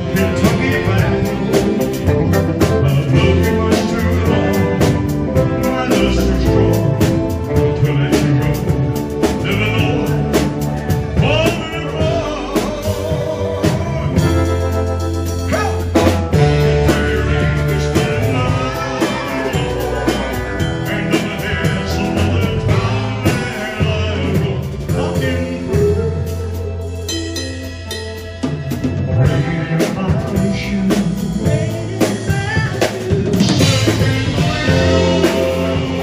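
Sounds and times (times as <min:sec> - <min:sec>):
live rock band playing: 0:00.0 - 0:36.0
person singing: 0:00.0 - 0:36.0.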